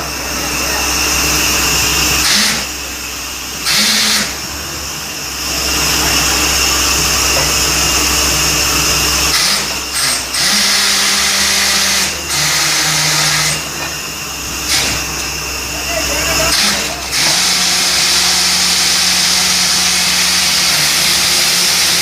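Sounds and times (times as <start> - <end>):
drilling rig machine drone: 0.0 - 22.0.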